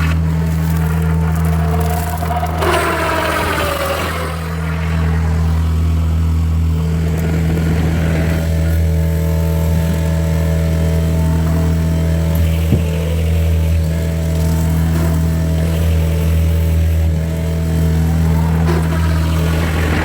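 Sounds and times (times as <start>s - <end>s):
diesel engine droning: 0.0s - 20.0s
falling whine: 0.0s - 20.0s.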